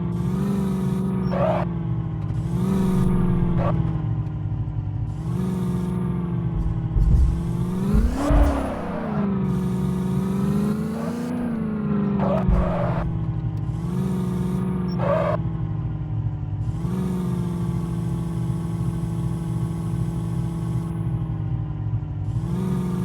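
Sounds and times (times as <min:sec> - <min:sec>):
motor droning hum: 0:02.2 - 0:23.0.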